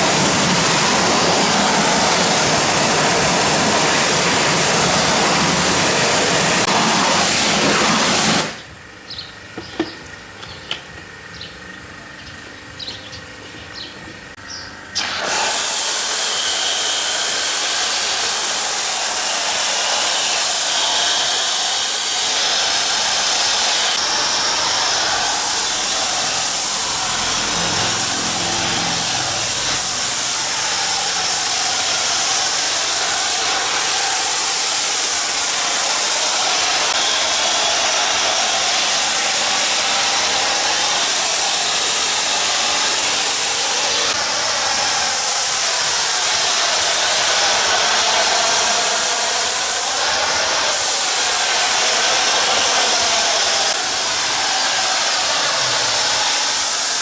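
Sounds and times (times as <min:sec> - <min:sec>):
pressure washer spraying car: 0:00.0 - 0:08.6, 0:14.9 - 0:57.0.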